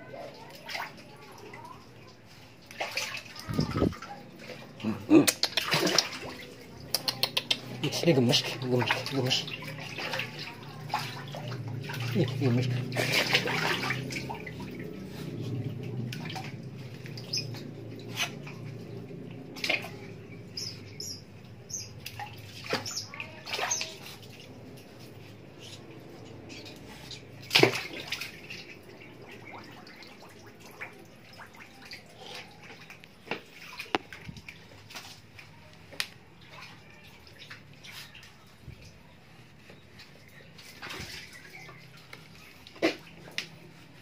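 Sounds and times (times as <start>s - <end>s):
water sloshing and splashing: 0.0s - 44.0s.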